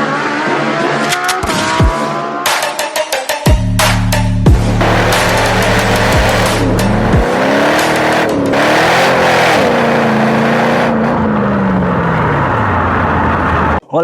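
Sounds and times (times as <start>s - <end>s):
car engine revving: 0.0s - 2.6s, 4.4s - 13.8s.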